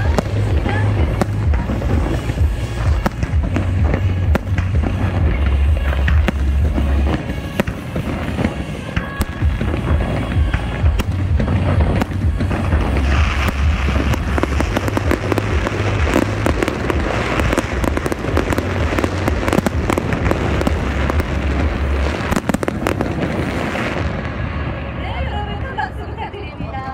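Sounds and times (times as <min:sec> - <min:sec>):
fireworks bursting and crackling: 0:00.0 - 0:26.9
music playing: 0:00.0 - 0:26.9.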